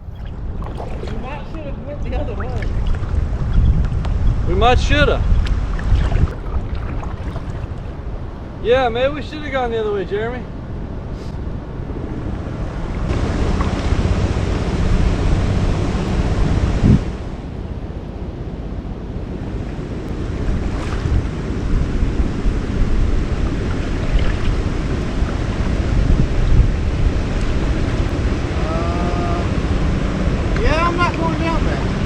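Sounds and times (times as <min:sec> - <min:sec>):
river water rushing: 0:00.0 - 0:08.6, 0:11.7 - 0:16.9, 0:19.2 - 0:32.0
wind buffeting microphone: 0:00.0 - 0:32.0.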